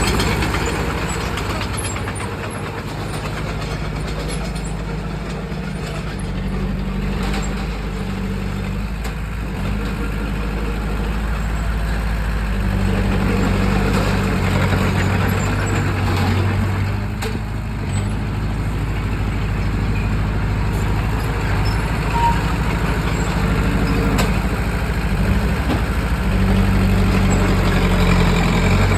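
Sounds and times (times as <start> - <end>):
bulldozer diesel engine: 0.0 - 28.9.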